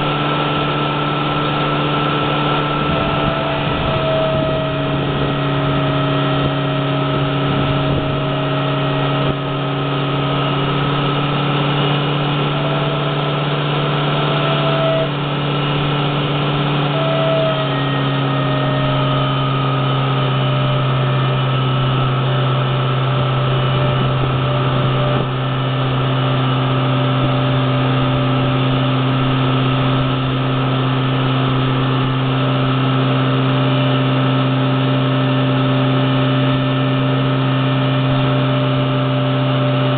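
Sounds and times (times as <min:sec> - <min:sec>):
engine humming: 0:00.0 - 0:39.9.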